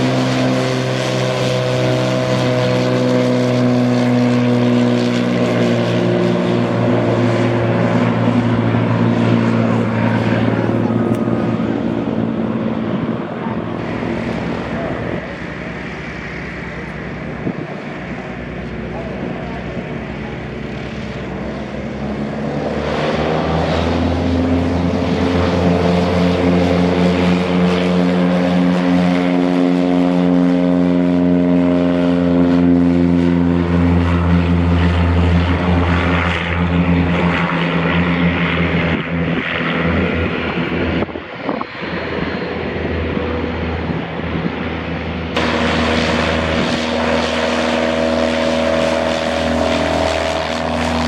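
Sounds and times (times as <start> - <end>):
propeller airplane droning past: 0.0 - 51.0.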